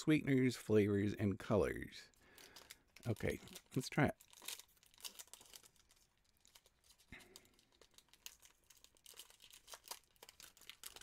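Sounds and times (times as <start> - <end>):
plastic wrapper crinkling: 2.1 - 11.0.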